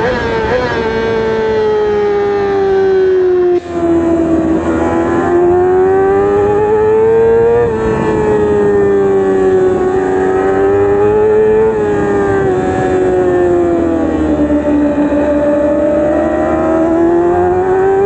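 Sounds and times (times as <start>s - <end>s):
motorcycle engine revving high: 0.0s - 18.0s.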